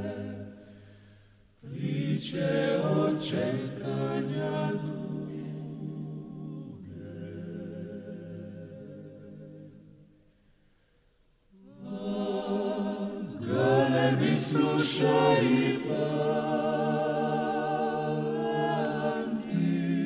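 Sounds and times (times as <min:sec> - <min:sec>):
choir singing held notes: 0:00.0 - 0:00.6, 0:01.6 - 0:09.8, 0:11.6 - 0:20.0.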